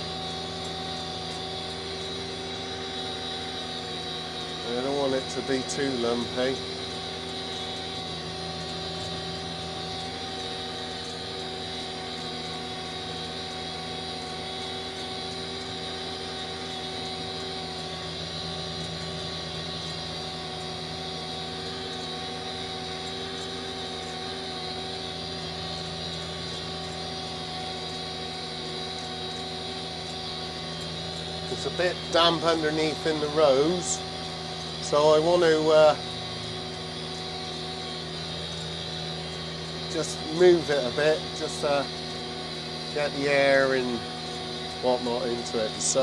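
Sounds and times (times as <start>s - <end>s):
tractor engine running: 0.0s - 46.0s.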